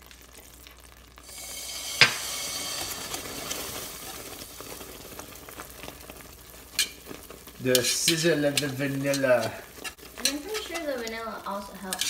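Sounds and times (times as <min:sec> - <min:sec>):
hot caramel sizzling: 0:00.0 - 0:12.0.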